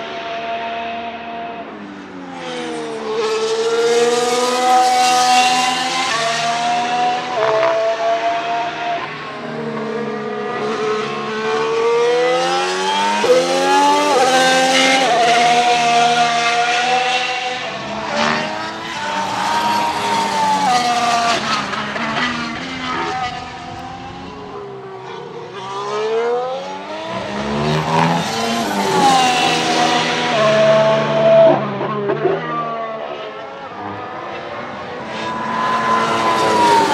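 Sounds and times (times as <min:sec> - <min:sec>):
racing car engine revving: 0:02.4 - 0:36.9.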